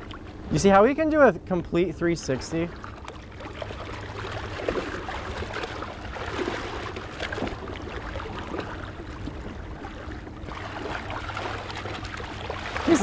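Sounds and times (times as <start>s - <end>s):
boat engine idling: 0.0s - 13.0s
water sloshing and splashing: 0.0s - 13.0s.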